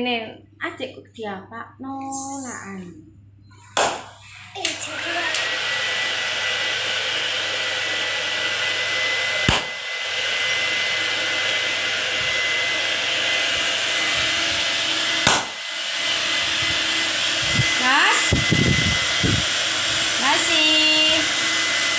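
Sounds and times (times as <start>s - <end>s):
hair dryer blowing: 3.8s - 21.9s.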